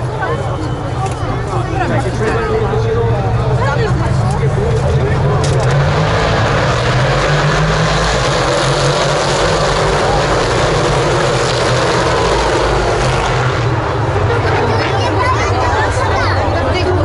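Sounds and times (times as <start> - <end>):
race car engines droning: 0.0 - 17.0
spectators talking: 0.0 - 17.0.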